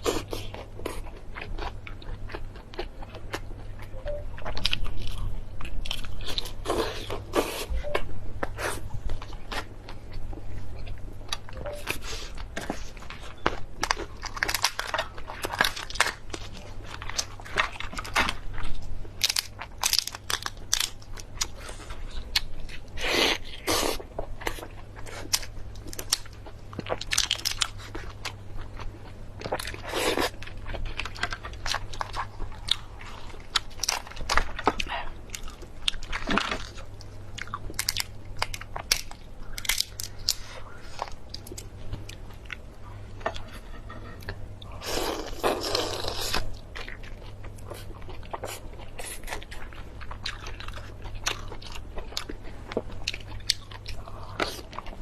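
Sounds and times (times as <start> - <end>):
person crunching and chewing: 0.0 - 55.0
steady low hum: 0.0 - 55.0.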